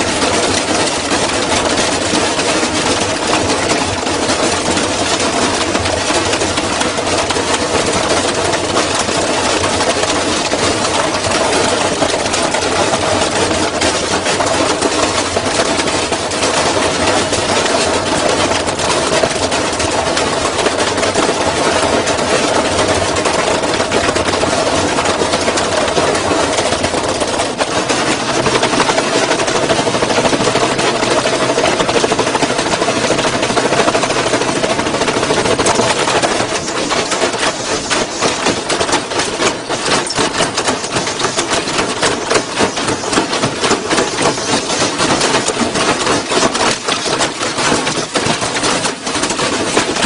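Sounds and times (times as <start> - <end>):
washing machine spinning: 0.0 - 50.0.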